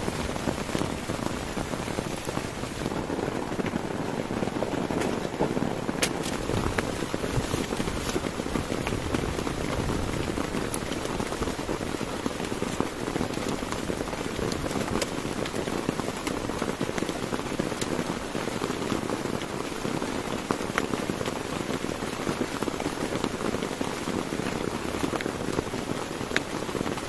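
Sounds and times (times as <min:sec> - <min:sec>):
sharp raindrop strikes: 0:00.0 - 0:21.8
heavy rain falling: 0:00.0 - 0:27.0.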